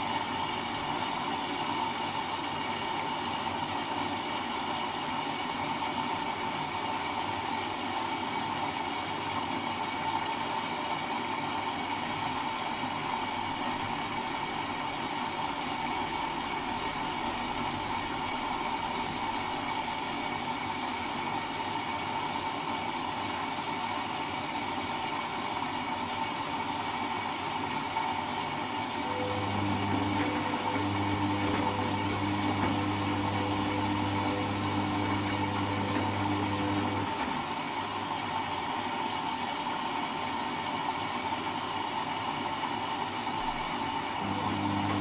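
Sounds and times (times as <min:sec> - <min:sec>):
washing machine running: 0:00.0 - 0:45.0.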